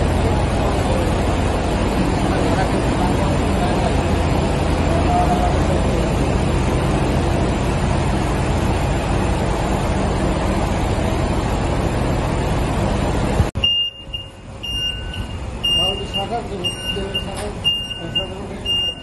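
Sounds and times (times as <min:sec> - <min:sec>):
traffic and machinery rumble: 0:00.0 - 0:19.0.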